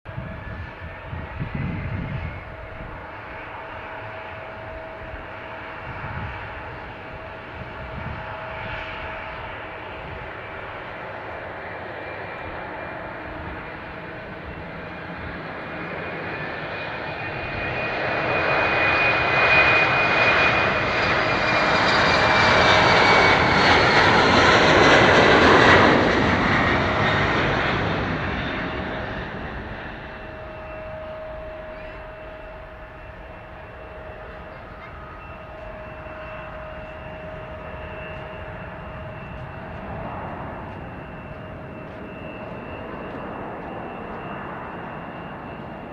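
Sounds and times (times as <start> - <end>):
high engine whine: 0.1 - 45.9
jet engines rumbling: 0.1 - 45.9.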